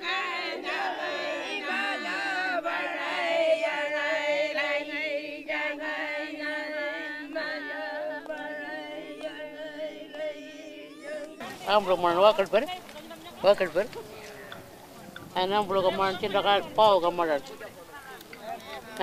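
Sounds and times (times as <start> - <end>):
voices singing a chant: 0.0 - 19.0.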